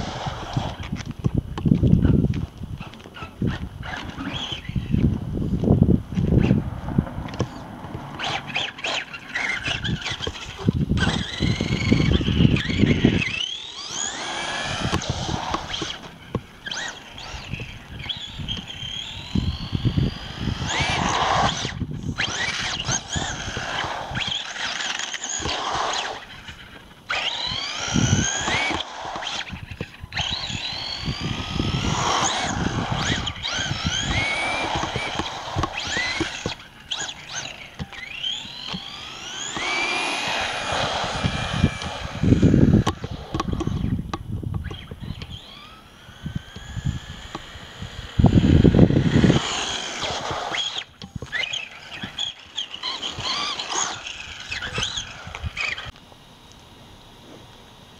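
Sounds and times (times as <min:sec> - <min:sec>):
electric motor whining: 0:00.0 - 0:56.6
tyres on asphalt: 0:00.0 - 0:57.9.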